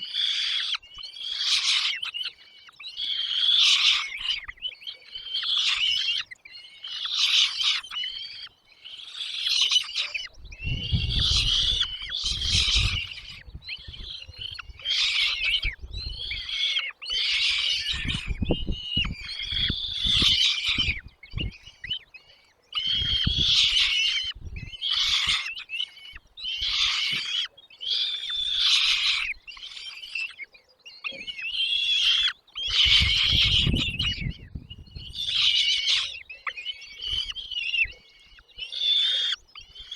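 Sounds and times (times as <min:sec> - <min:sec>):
nestling birds chirping: 0:00.0 - 0:39.9.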